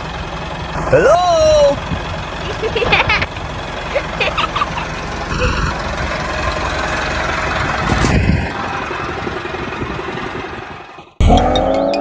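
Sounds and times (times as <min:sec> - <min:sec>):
tractor engine idling: 0:00.0 - 0:11.2.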